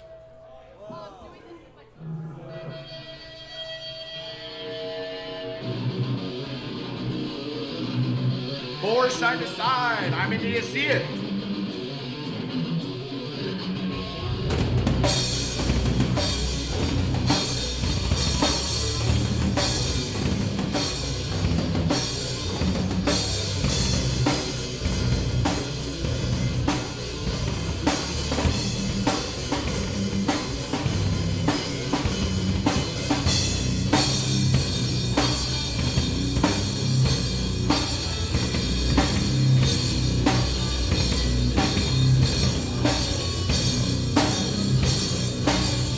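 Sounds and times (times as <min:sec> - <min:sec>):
live band playing instrumental: 0:05.6 - 0:45.9.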